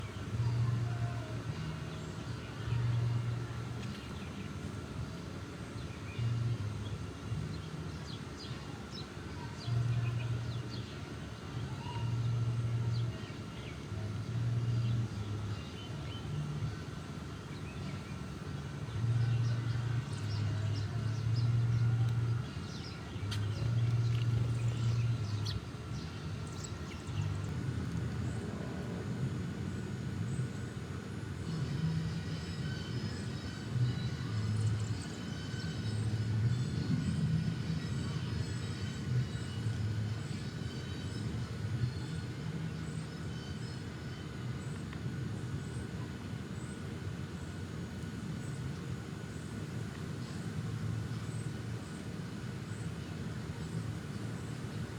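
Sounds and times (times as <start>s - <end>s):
low droning hum: 9.3s - 54.9s.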